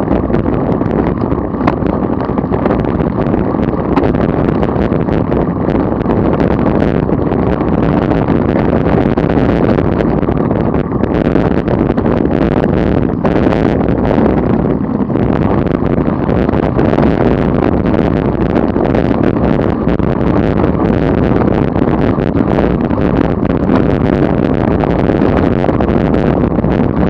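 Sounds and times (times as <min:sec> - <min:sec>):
road noise: 0:00.0 - 0:27.0
wind buffeting microphone: 0:00.0 - 0:27.0.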